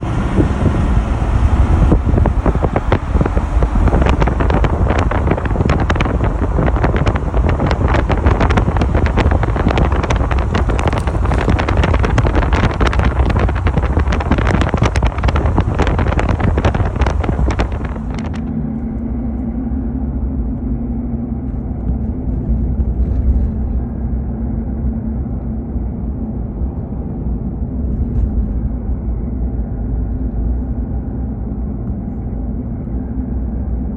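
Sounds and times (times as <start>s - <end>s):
engine and road hum: 0.0s - 33.9s
wind buffeting microphone: 0.0s - 33.9s.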